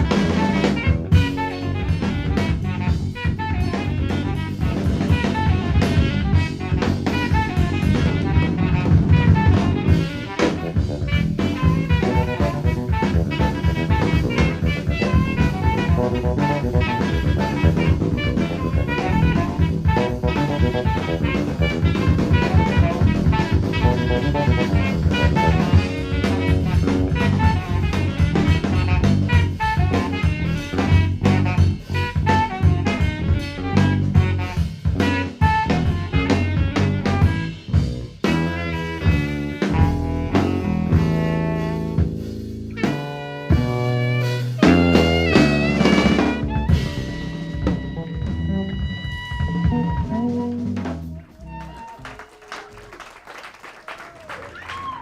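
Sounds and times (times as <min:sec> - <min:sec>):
electric bass line: 0:00.0 - 0:51.8
drum kit with rimshots: 0:00.0 - 0:55.0.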